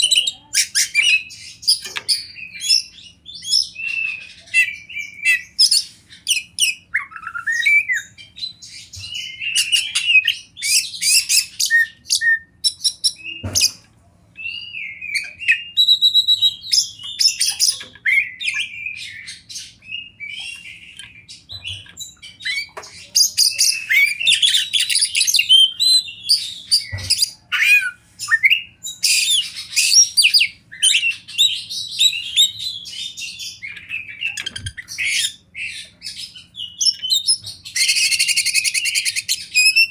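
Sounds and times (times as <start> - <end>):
magpie-robin singing: 0.0 - 13.8, 14.4 - 39.9.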